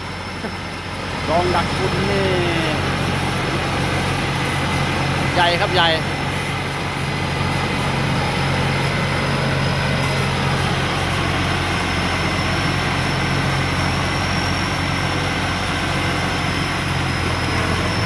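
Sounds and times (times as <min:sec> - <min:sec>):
combine harvester engine running: 0:00.0 - 0:18.0.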